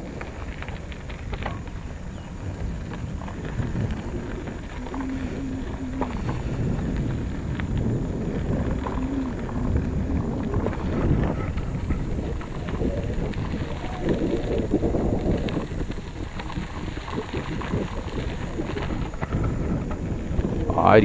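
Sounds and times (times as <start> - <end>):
bicycle tyres crunching on dirt: 0.0 - 21.0
wind buffeting microphone: 0.0 - 21.0.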